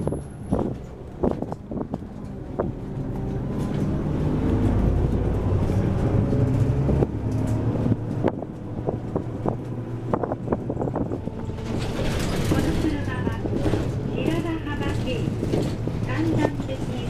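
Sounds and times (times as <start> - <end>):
bus engine under load: 0.0 - 17.0.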